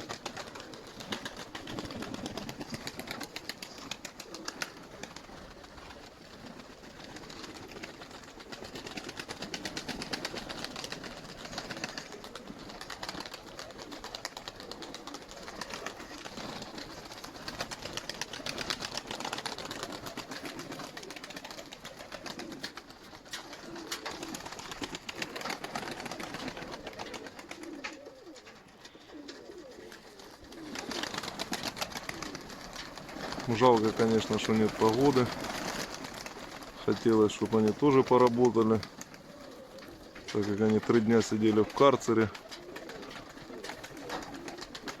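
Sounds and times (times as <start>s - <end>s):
pigeons cooing: 0.0s - 45.0s.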